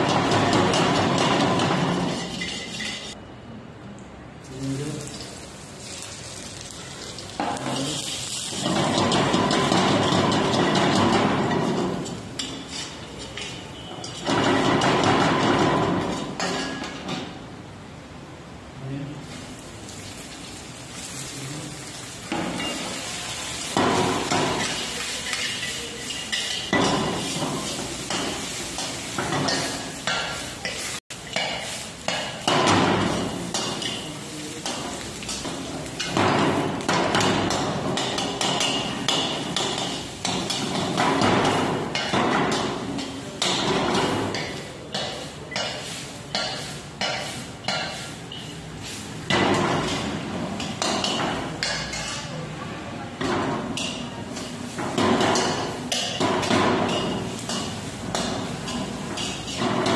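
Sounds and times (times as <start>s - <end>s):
frying sizzle: 0.0s - 3.2s, 4.4s - 17.5s, 19.2s - 52.6s, 53.2s - 59.9s
metal spatula scraping a wok: 0.0s - 3.2s, 7.6s - 14.8s, 21.0s - 52.3s, 53.6s - 59.9s.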